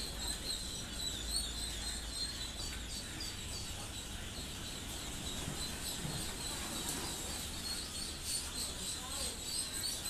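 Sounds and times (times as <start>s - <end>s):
ducklings peeping: 0.0s - 10.0s.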